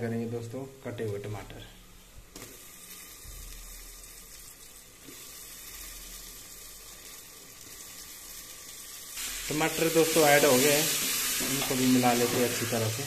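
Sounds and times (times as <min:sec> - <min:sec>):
food sizzling in hot oil: 0:02.3 - 0:13.0.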